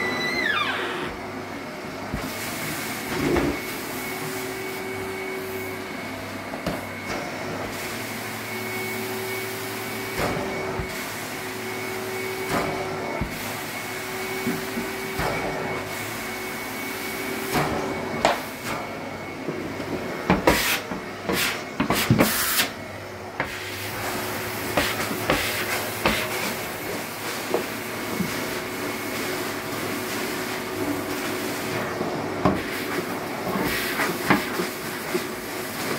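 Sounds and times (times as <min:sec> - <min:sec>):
carpet extractor vacuum whine: 0:00.0 - 0:35.9.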